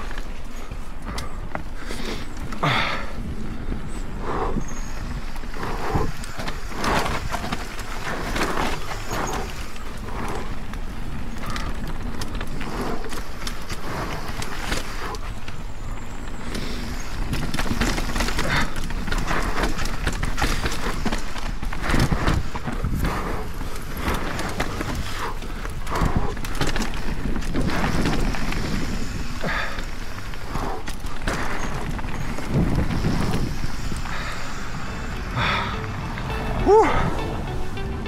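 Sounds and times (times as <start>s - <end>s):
bike clattering and rattling: 0.0s - 38.0s
tyres rumbling over dirt: 0.0s - 38.0s.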